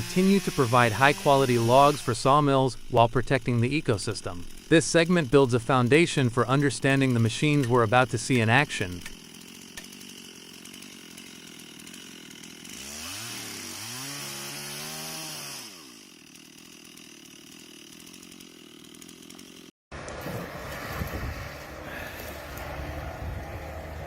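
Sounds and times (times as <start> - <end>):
chainsaw revving: 0.0 - 24.0.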